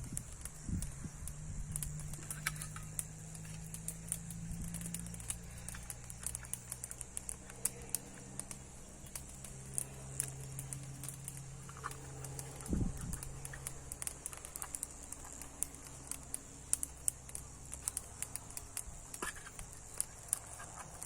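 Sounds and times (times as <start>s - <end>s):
steady low hum: 0.0s - 21.0s
wood fire crackling: 0.0s - 21.0s.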